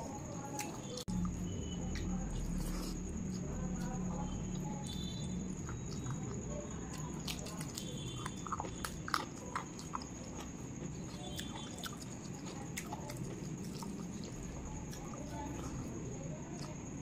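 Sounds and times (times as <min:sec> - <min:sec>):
mouth chewing food: 0:00.0 - 0:17.0.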